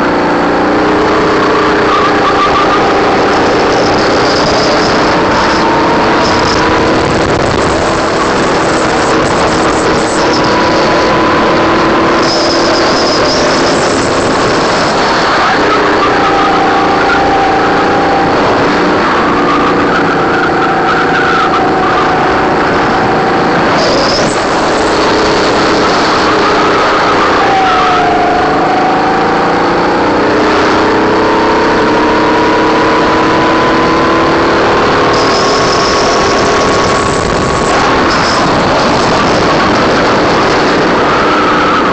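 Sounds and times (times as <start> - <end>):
kart engine running hard: 0.0 - 41.9.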